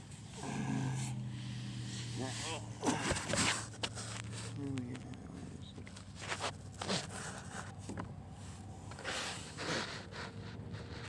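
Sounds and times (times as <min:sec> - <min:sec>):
scraping and rustling strokes: 0:00.1 - 0:04.6, 0:06.0 - 0:11.0.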